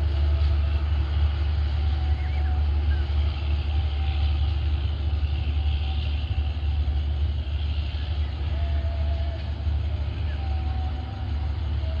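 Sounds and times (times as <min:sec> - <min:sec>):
train low rumble: 0:00.0 - 0:12.0
wheels hissing on rails: 0:00.0 - 0:12.0.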